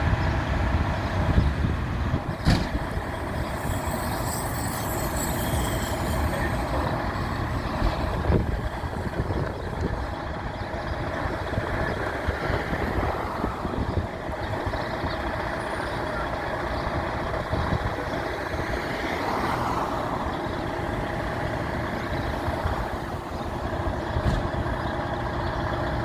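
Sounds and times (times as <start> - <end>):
fire engine rumbling: 0.0 - 26.0.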